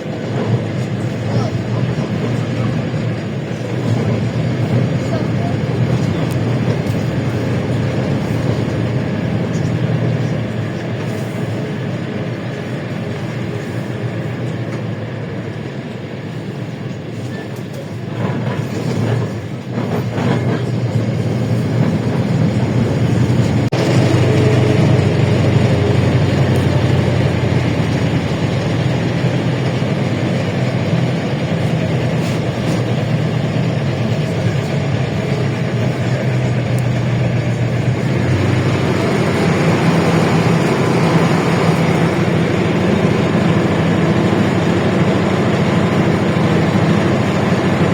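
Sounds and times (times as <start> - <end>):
bus engine droning: 0.0 - 47.9
road noise: 0.0 - 47.9.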